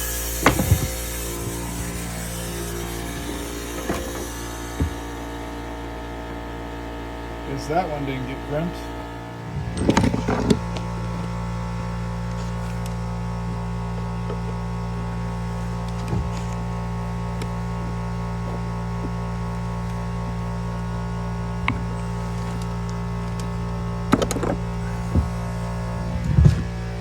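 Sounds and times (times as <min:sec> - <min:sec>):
air compressor humming: 0:00.0 - 0:27.0.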